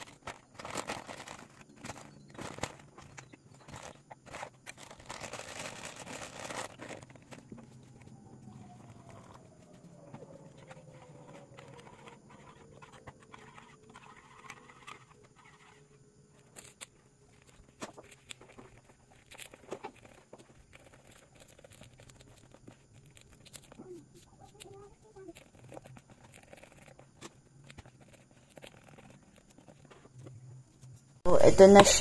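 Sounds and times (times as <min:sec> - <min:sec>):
batter being stirred: 0:00.0 - 0:31.9.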